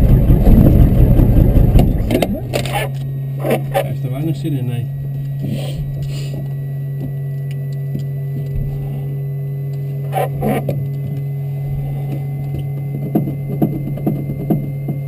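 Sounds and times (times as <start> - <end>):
helicopter cockpit hum: 0.0 - 15.0.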